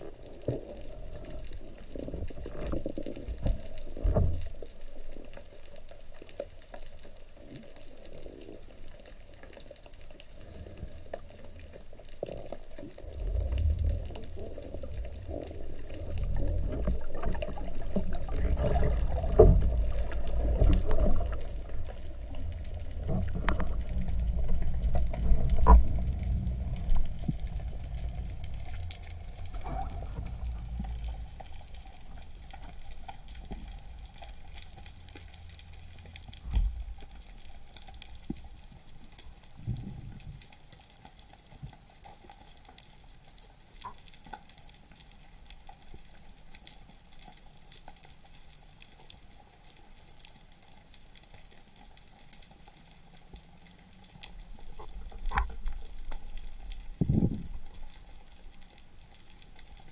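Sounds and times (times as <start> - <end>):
underwater crackle and hiss: 0.0 - 59.9.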